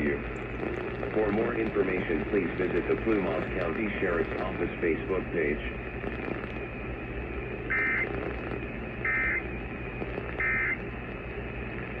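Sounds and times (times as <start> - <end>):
low hum and hiss: 0.0 - 12.0
warbling digital data tones: 0.0 - 12.0.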